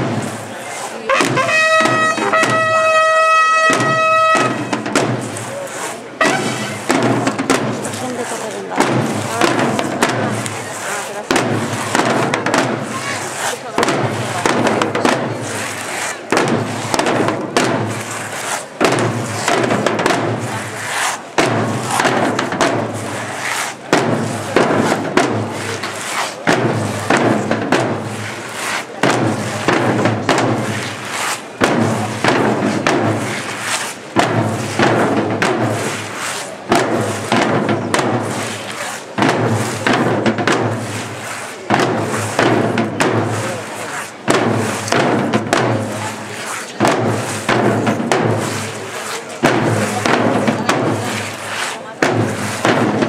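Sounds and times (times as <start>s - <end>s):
marching field drums: 0.0s - 53.0s.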